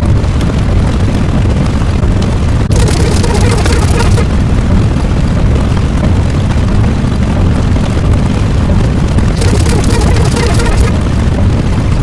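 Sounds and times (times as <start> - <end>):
loud low rumbling: 0.0 - 12.0.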